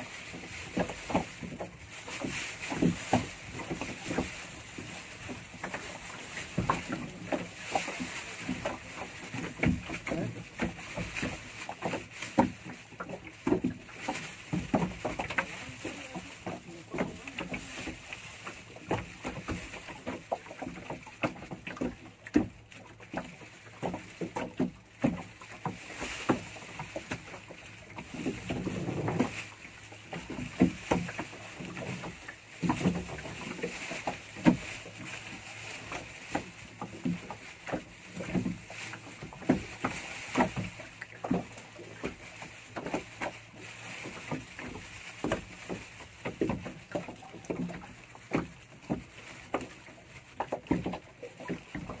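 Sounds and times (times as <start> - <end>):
water slapping against boat hull: 0.0 - 52.0.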